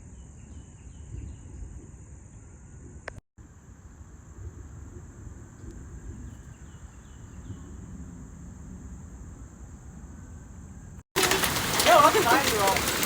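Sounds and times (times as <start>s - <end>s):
insects droning: 0.1s - 13.0s.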